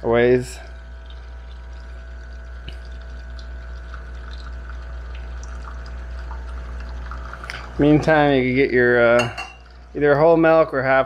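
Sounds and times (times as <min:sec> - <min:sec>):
espresso machine pump humming: 0:00.0 - 0:11.0.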